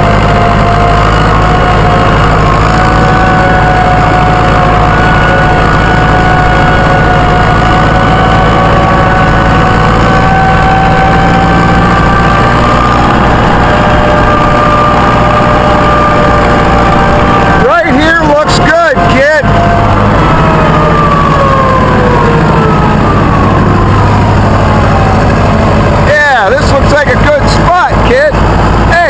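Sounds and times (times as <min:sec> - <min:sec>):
tractor engine running: 0:00.0 - 0:29.0
whine rising in pitch: 0:00.0 - 0:29.0.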